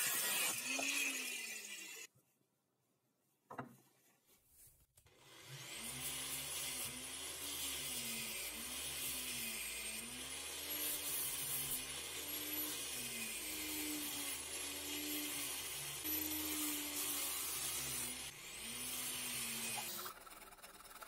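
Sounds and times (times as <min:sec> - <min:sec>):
angle grinder sanding metal: 0:00.0 - 0:02.1, 0:05.3 - 0:21.0.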